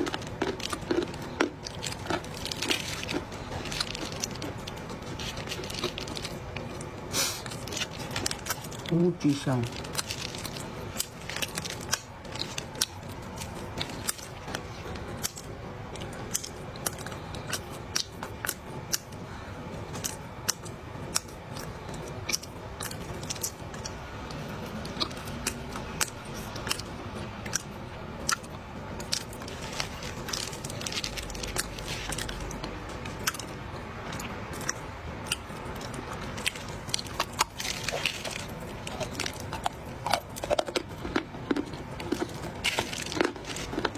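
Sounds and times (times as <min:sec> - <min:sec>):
mouth chewing crunchy clay: 0:00.0 - 0:43.9.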